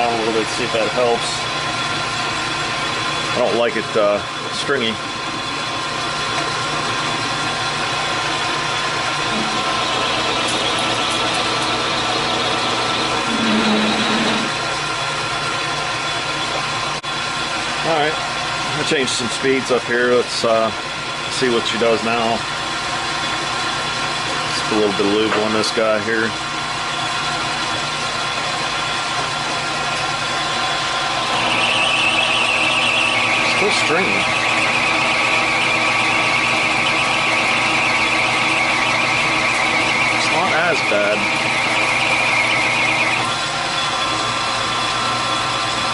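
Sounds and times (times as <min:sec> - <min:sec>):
high machine whine: 0:00.0 - 0:45.9
metal lathe humming: 0:00.0 - 0:45.9.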